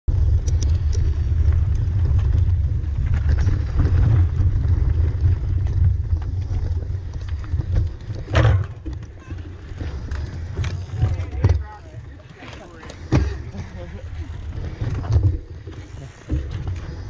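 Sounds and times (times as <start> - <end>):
bikes clicking and rattling: 0.1 - 17.0
low rumble of camera shaking: 0.1 - 17.0.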